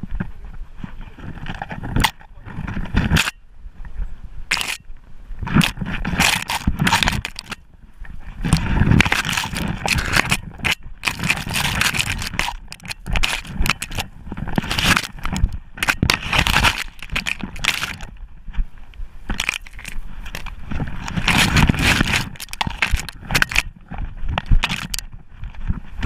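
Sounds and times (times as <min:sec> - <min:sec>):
dry bracken crackling and snapping: 0:00.9 - 0:03.4, 0:04.5 - 0:26.0.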